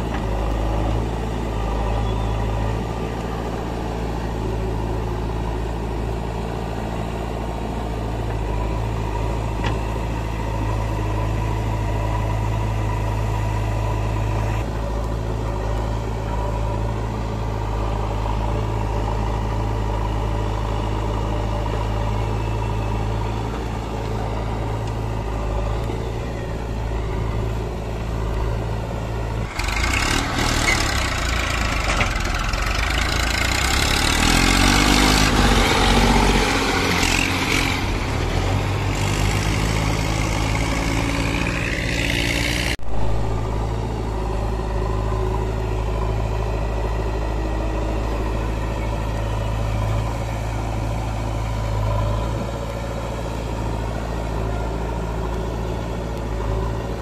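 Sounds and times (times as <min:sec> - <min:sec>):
diesel engines idling: 0:00.0 - 0:57.0
rough engine with hiss: 0:00.0 - 0:57.0.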